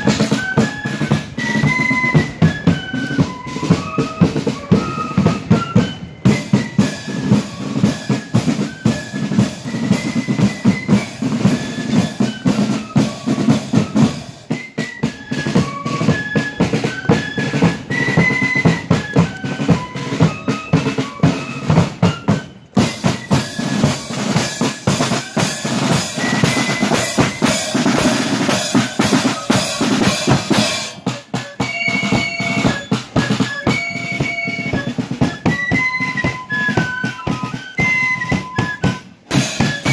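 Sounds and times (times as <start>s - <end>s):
flutes playing melody: 0.0s - 39.9s
rapid snare drum strokes: 0.0s - 39.9s.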